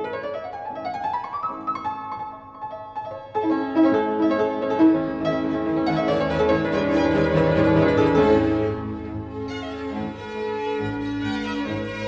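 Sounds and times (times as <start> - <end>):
solo piano rising run: 0.0 - 12.0.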